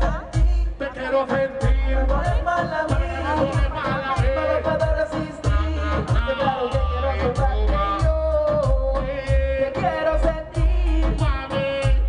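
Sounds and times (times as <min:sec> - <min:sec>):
backing track with heavy bass beat: 0:00.0 - 0:12.0
man singing into a microphone: 0:00.0 - 0:12.0.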